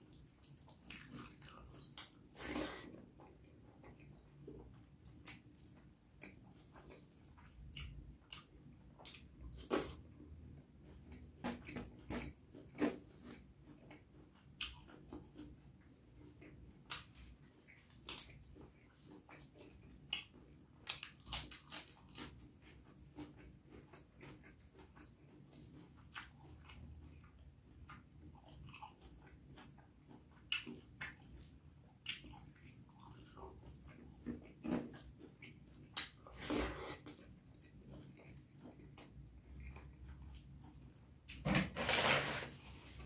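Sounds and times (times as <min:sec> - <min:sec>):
person chewing food: 0:00.0 - 0:41.4.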